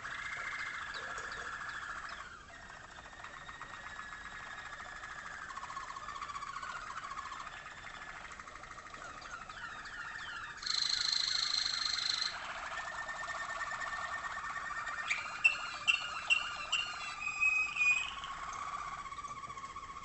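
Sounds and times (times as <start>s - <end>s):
canaries singing trills: 0.0s - 20.0s.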